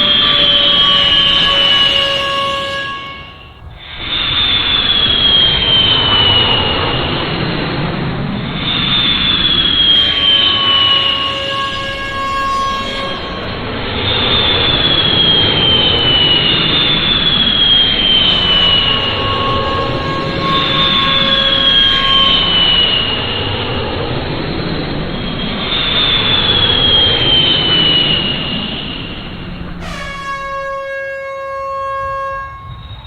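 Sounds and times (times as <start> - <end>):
jet engine rush and whine: 0.0 - 31.0.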